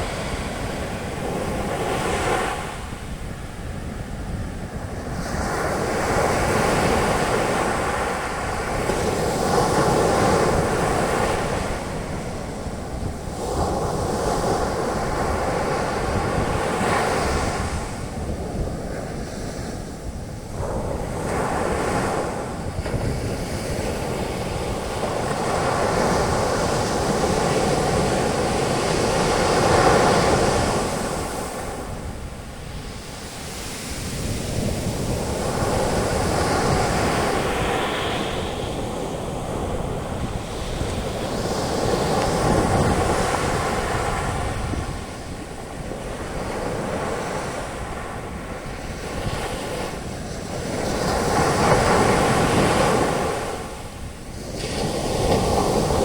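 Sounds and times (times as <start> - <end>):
sea waves breaking on beach: 0.0 - 56.0
wind rumble on microphone: 0.0 - 56.0.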